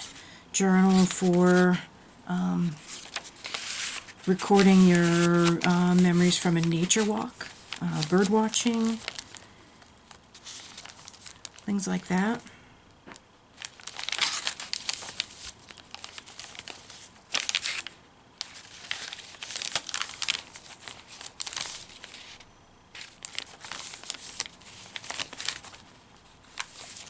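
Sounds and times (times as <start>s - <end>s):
paper pages rustling: 0.8s - 1.8s, 2.7s - 12.4s, 13.1s - 22.4s, 23.0s - 27.0s.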